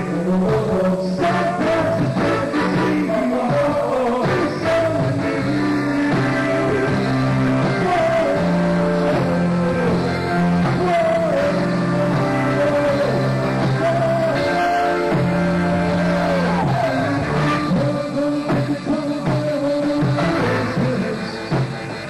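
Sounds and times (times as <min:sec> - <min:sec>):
live band playing: 0:00.0 - 0:22.0
vocalists singing: 0:00.0 - 0:22.0.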